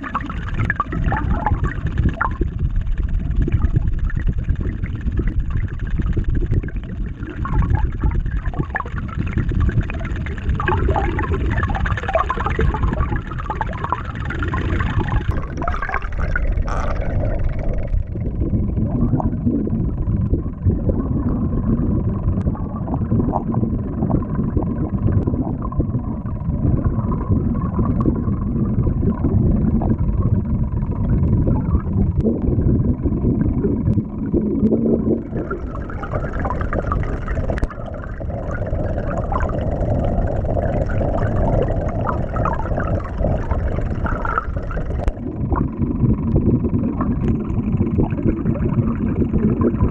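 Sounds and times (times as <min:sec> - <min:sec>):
underwater rush of water: 0:00.0 - 0:49.9.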